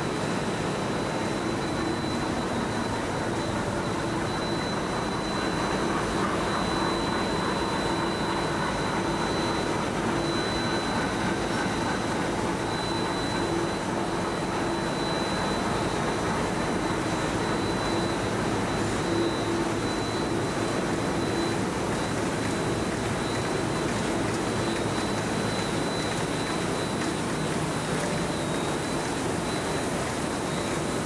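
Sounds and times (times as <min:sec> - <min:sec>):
high steady whine: 0:00.0 - 0:31.0
printing press running: 0:00.0 - 0:31.0.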